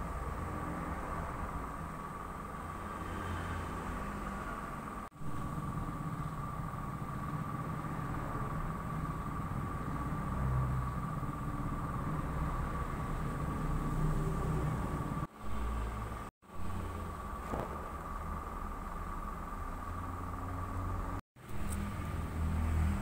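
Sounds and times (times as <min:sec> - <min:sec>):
faint constant whine: 0:00.0 - 0:22.8
low rumble and hum: 0:00.0 - 0:23.0.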